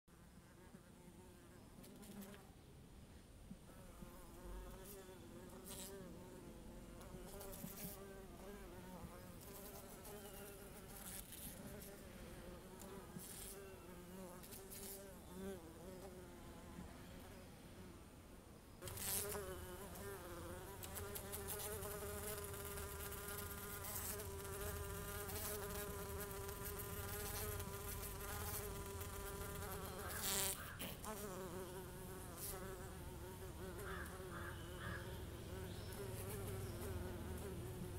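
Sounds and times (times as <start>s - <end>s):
bee buzzing: 3.8s - 16.4s, 18.8s - 37.9s.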